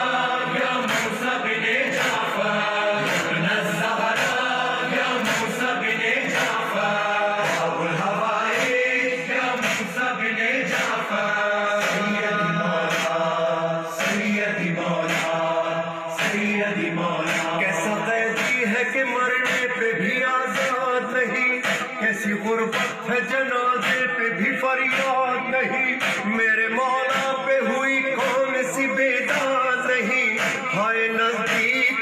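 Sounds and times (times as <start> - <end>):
steady rhythmic beat: 0.0 - 32.0
voices singing devotional chant: 0.0 - 32.0.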